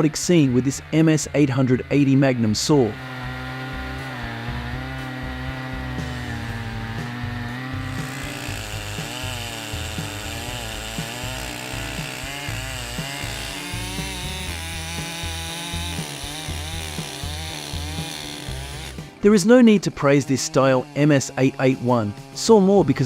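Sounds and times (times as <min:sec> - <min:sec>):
background music: 0:00.0 - 0:23.0
chainsaw cutting log: 0:00.0 - 0:23.0.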